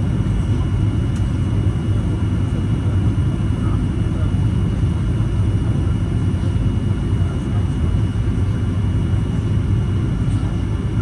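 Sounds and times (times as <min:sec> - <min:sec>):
jet cabin airflow rumble: 0:00.0 - 0:11.0.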